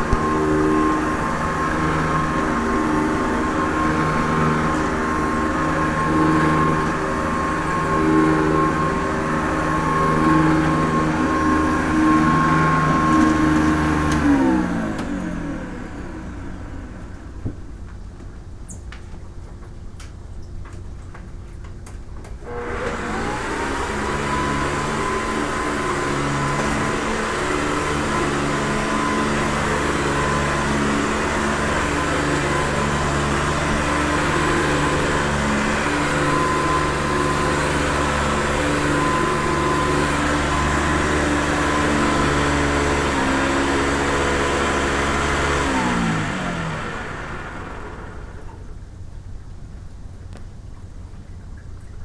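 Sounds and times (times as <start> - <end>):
vacuum cleaner motor whine: 0.0 - 17.6, 22.4 - 48.8.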